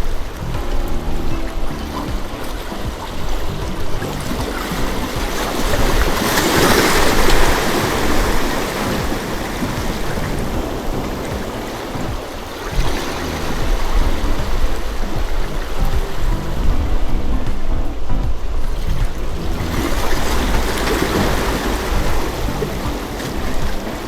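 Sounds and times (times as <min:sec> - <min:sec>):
waves on rocky shore: 0:01.6 - 0:16.7, 0:18.4 - 0:24.0.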